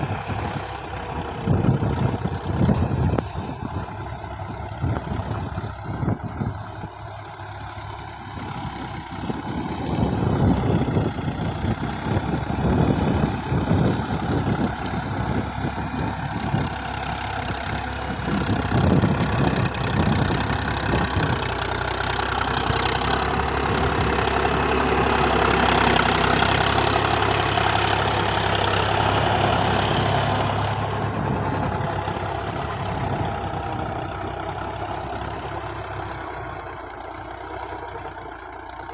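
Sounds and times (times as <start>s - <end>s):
diesel tractor engines chugging: 0.0s - 38.9s.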